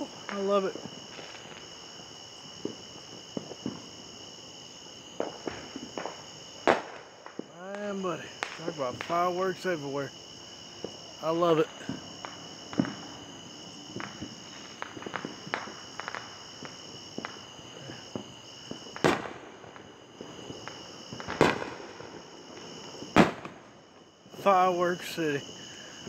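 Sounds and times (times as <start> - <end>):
fireworks popping and crackling: 0.0 - 4.4, 5.1 - 26.0
firework bangs: 0.0 - 26.0
insects trilling: 0.0 - 26.0.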